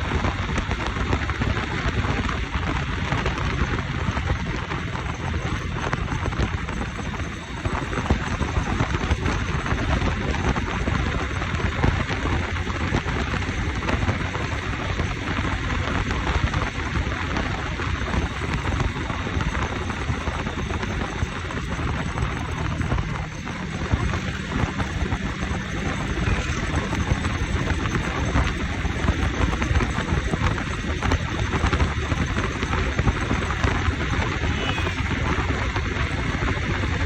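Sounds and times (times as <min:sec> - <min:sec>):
motorcycle engine: 0:00.0 - 0:37.0
wind buffeting microphone: 0:00.0 - 0:37.0.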